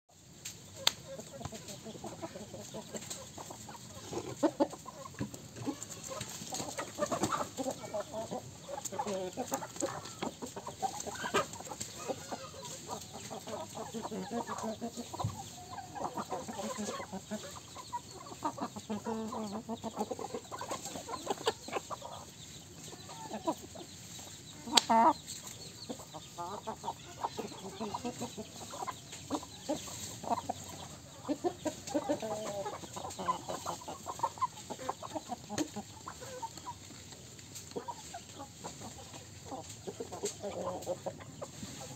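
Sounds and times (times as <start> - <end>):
chickens clucking: 0.1 - 41.9.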